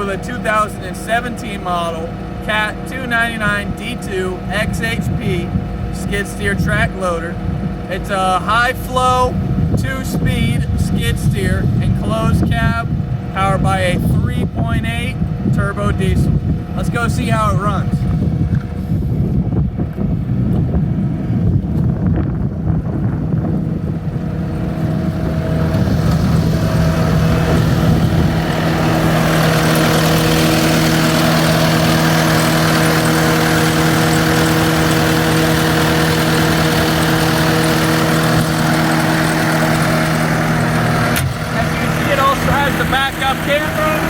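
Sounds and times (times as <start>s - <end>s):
loader diesel engine running: 0.0s - 44.0s.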